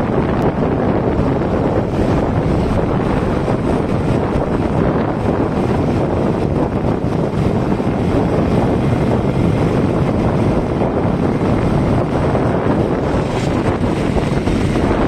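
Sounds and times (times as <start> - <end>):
road and vehicle noise: 0.0 - 15.0
wind buffeting microphone: 0.0 - 15.0.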